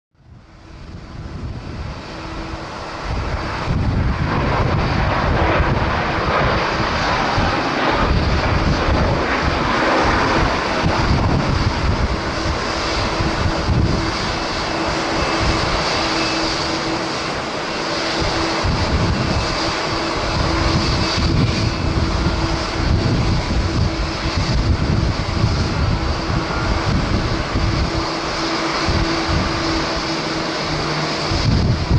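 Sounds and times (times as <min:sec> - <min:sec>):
jet engines running: 0:00.2 - 0:31.9
wind buffeting microphone: 0:00.2 - 0:31.9.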